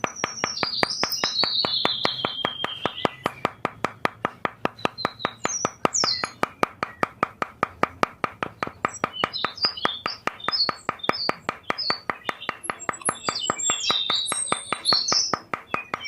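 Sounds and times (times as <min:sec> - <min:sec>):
high bird-like chirps: 0:00.0 - 0:03.6, 0:04.8 - 0:07.2, 0:08.5 - 0:16.0
rapid even clicking: 0:00.0 - 0:16.0.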